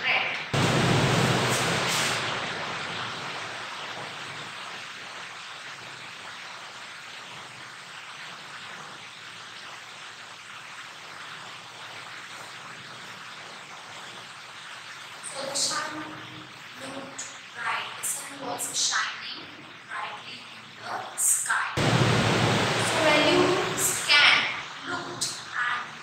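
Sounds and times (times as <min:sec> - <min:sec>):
even static hiss: 0:00.0 - 0:26.0.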